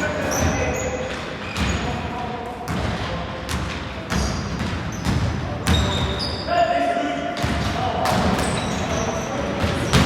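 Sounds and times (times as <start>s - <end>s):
basketball bouncing on hall floor: 0.2s - 6.4s, 7.4s - 10.0s.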